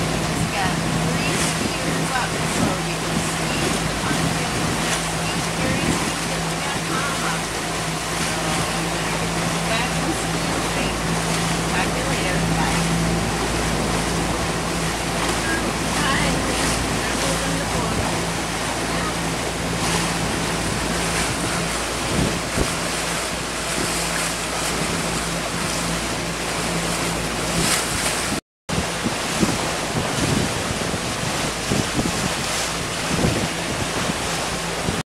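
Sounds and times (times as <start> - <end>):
boat engine humming: 0.0 - 35.0
gusty wind thumps: 0.0 - 35.0
wind rushing over microphone: 0.0 - 35.0.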